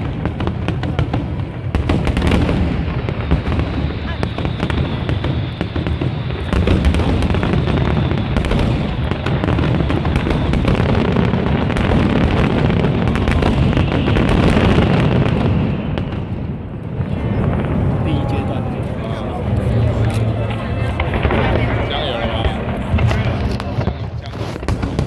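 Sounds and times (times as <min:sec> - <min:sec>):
fireworks crackling: 0:00.0 - 0:25.0
fireworks low booms: 0:00.0 - 0:25.0.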